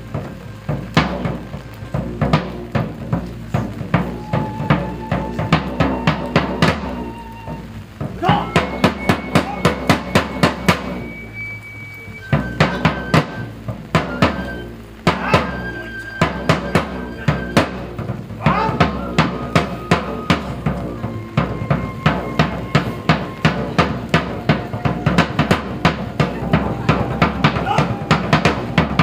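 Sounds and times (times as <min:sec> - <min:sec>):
snare drum struck with sticks: 0:00.0 - 0:07.2, 0:08.0 - 0:11.2, 0:12.3 - 0:29.0
flute playing long high notes: 0:03.8 - 0:29.0.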